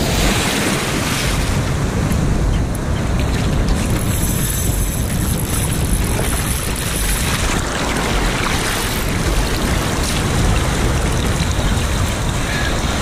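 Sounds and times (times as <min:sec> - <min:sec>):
surf water sloshing and splashing: 0:00.0 - 0:13.0.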